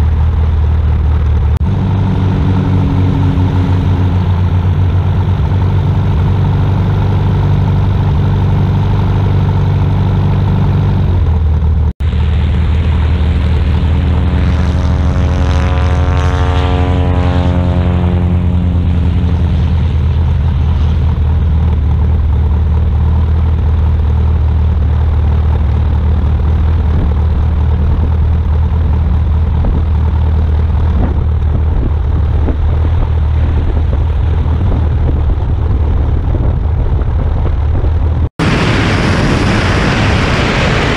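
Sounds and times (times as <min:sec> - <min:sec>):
aircraft passing: 0:00.0 - 0:23.4, 0:26.2 - 0:40.9
light aircraft engine idling: 0:00.0 - 0:40.9.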